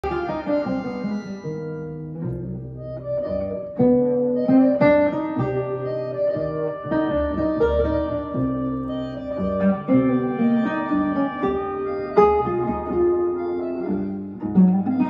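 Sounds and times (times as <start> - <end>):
plucked-string instrumental music: 0.0 - 15.0.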